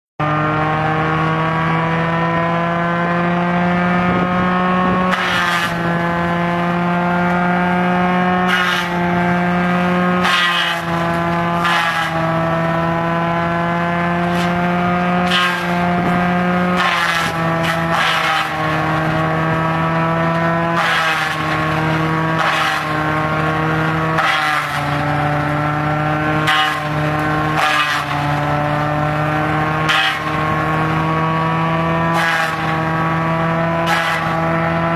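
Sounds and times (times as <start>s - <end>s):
chipper-shredder machine whine: 0.2s - 34.9s
blades crunching and shredding fronds: 5.0s - 34.9s.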